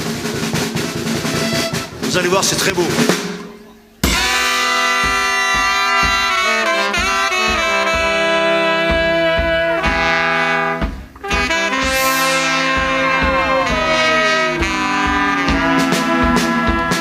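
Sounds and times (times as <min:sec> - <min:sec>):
live band playing jazz: 0:00.0 - 0:17.0
steady drum beat: 0:00.0 - 0:17.0
horns holding chords: 0:01.1 - 0:17.0.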